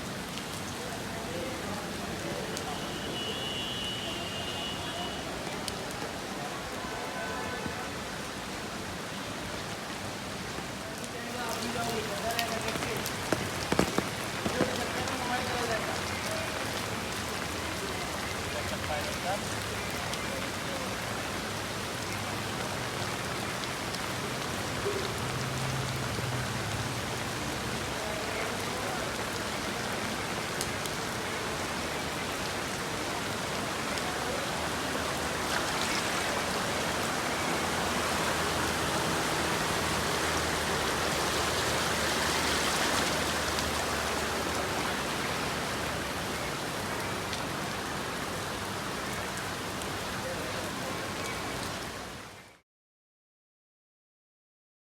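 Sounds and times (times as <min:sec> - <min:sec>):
heavy rain on the street: 0:00.0 - 0:52.6.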